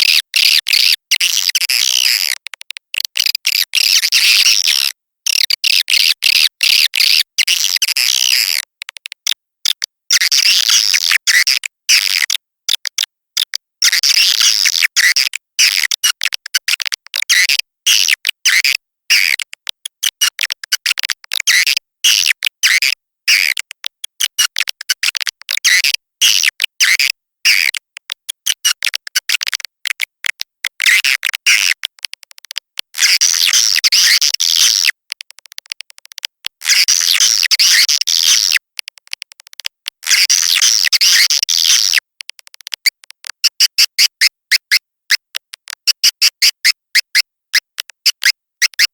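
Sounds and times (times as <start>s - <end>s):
ticks: 1.2s - 3.7s, 7.8s - 10.3s, 11.1s - 48.9s.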